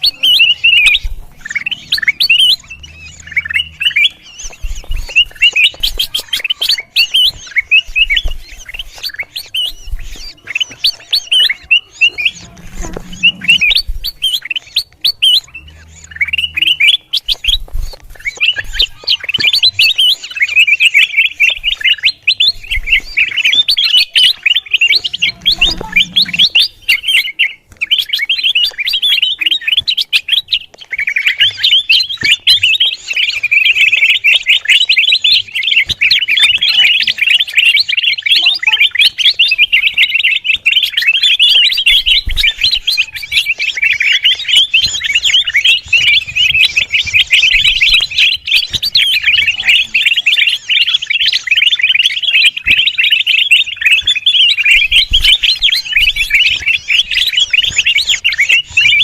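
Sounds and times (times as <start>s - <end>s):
bulbul chattering: 0.0s - 59.0s.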